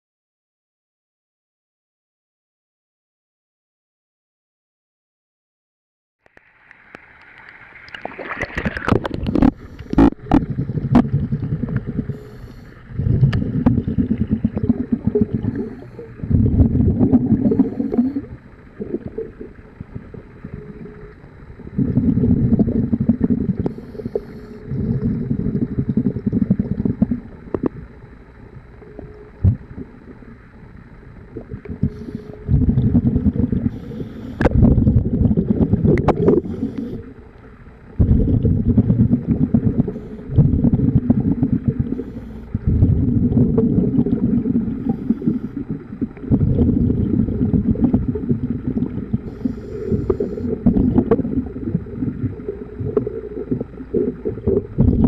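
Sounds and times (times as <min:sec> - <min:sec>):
underwater exhaled bubbles rumbling: 0:07.7 - 0:55.0.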